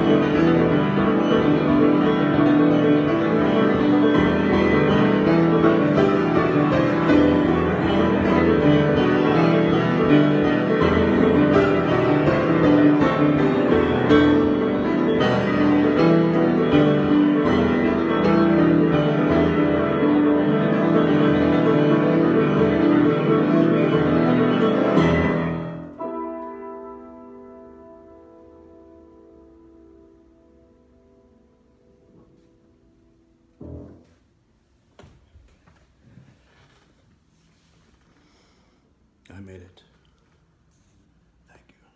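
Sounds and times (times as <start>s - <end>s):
solo piano: 0.0s - 34.6s.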